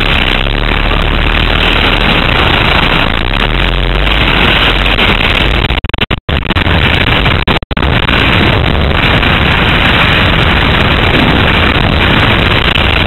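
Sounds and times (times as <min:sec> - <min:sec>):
wind buffeting microphone: 0:00.0 - 0:05.8, 0:06.4 - 0:13.0.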